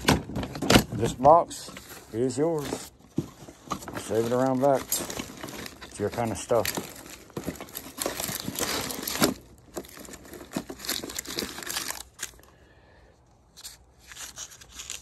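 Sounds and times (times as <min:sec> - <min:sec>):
packaging and cables rustling: 0:00.0 - 0:12.5.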